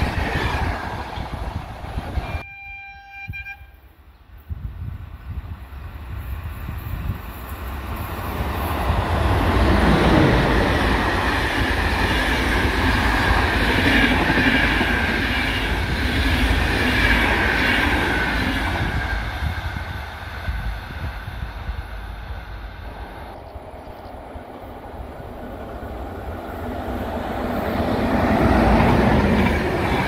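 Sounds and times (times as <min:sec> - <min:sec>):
train wheels rushing on rails: 0:00.0 - 0:02.4, 0:04.5 - 0:30.0
electric locomotive passing: 0:00.0 - 0:30.0.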